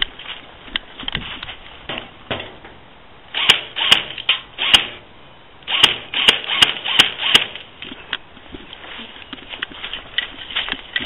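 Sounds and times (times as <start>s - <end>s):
noisy rustle: 0.0s - 5.0s, 5.7s - 11.0s.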